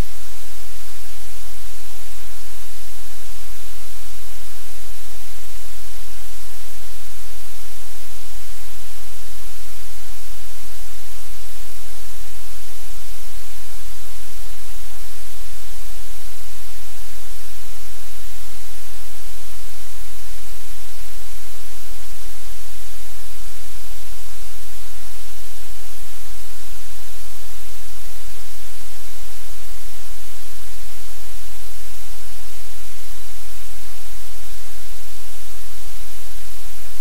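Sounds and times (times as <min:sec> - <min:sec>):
static hiss: 0:00.0 - 0:37.0.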